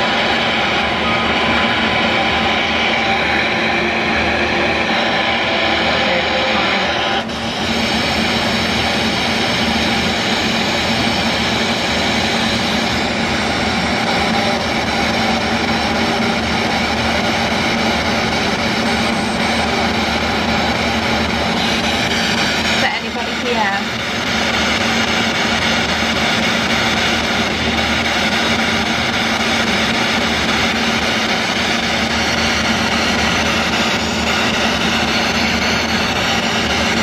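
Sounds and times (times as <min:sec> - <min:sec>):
radio static: 0:00.0 - 0:37.0.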